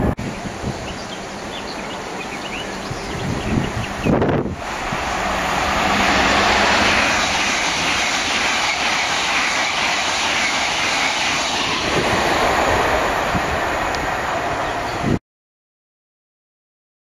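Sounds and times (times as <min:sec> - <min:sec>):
train passing at speed: 0:00.0 - 0:15.2.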